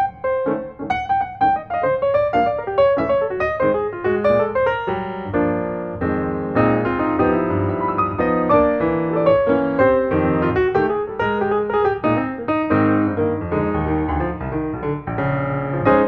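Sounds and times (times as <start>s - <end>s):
busy piano music: 0.0s - 16.0s.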